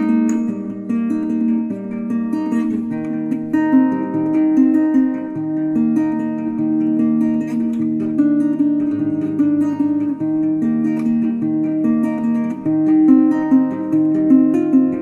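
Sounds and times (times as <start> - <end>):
plucked string instrument music: 0.0 - 15.0.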